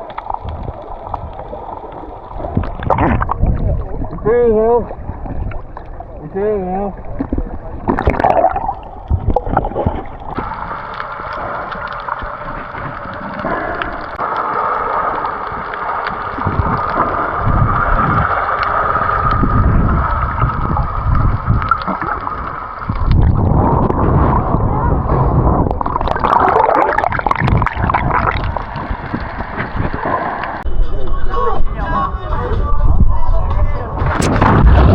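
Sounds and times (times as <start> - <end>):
water gurgling and sloshing: 0.0 - 30.7, 34.0 - 34.9.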